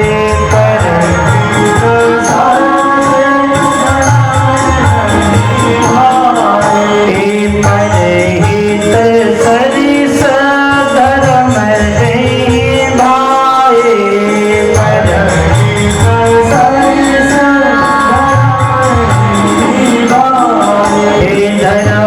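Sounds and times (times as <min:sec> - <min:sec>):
devotional song singing: 0:00.0 - 0:22.0
rhythmic percussion: 0:00.0 - 0:22.0.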